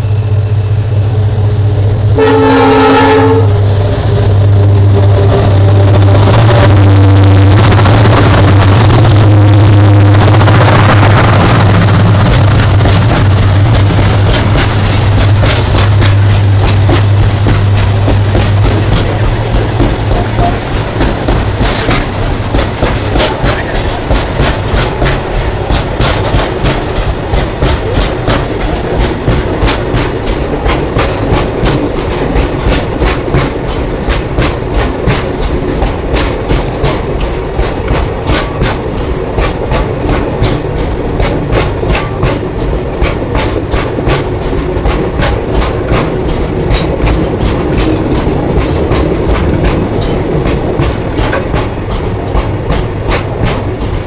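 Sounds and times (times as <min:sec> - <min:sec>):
train rumble: 0:00.0 - 0:54.0
wheels clacking over rail joints: 0:02.2 - 0:54.0.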